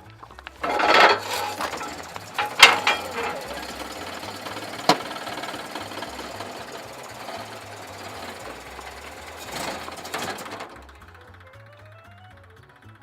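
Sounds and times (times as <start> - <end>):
old car engine clattering: 0.0 - 13.0.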